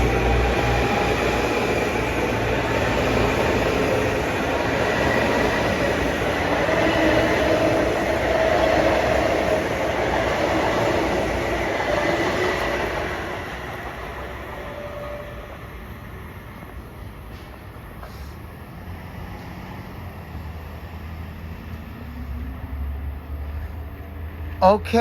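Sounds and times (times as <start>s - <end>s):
faint train whine: 0.0s - 25.0s
train wheels rumbling on rail: 0.0s - 25.0s.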